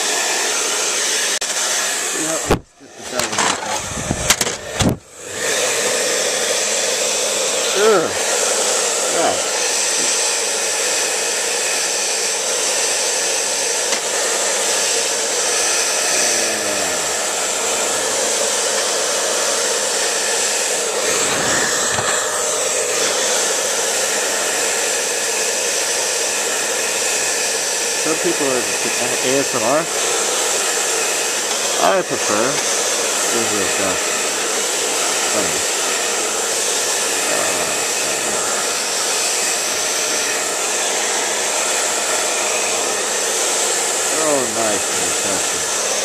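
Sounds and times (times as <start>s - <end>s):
hair dryer whirring: 0.0s - 46.0s.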